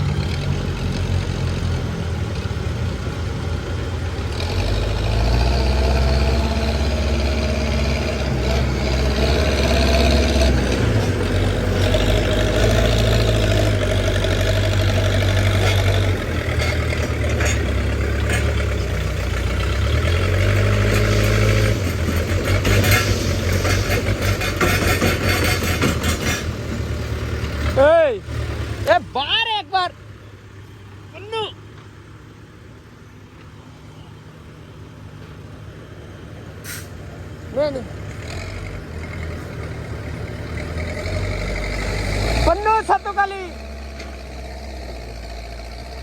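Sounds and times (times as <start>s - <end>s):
diesel engine revving: 0.0s - 46.0s.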